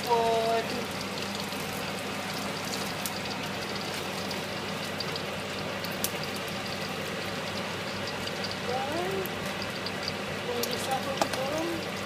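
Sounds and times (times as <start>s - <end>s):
prawns sizzling in wok: 0.0s - 12.0s.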